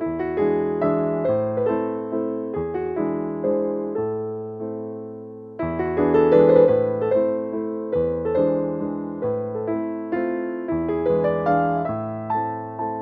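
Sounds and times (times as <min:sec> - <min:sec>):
soft electric piano chords: 0:00.0 - 0:13.0.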